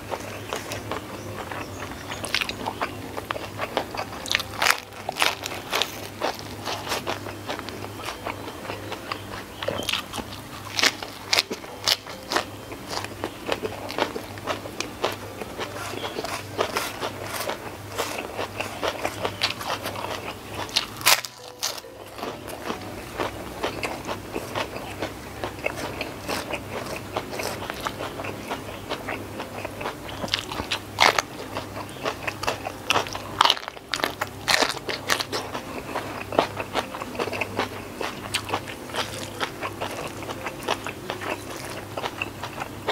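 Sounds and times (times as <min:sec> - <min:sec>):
chewing and crunching lettuce: 0:00.0 - 0:42.9.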